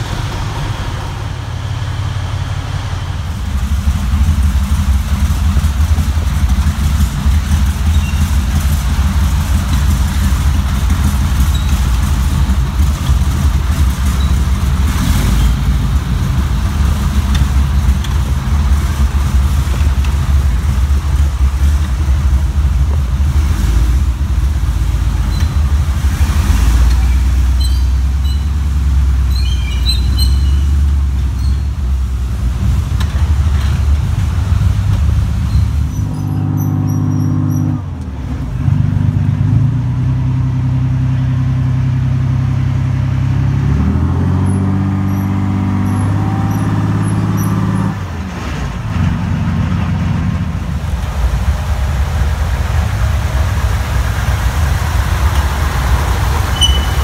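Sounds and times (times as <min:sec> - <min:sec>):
large engine idling: 0:00.0 - 0:43.6, 0:45.9 - 0:57.0.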